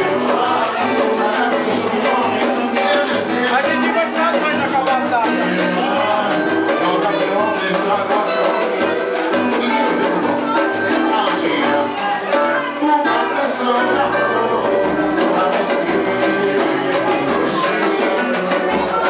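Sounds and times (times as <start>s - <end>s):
latin dance music: 0.0s - 19.0s
person singing: 0.0s - 19.0s.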